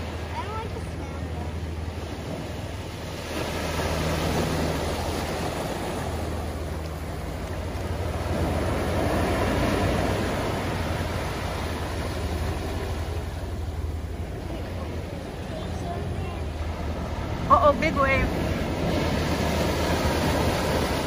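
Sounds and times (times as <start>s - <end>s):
surf breaking on rocks: 0.0s - 21.0s.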